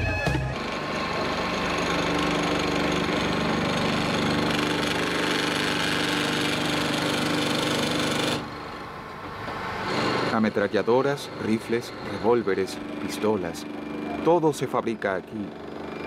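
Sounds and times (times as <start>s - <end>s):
machine tool cutting steel: 0.6s - 16.0s.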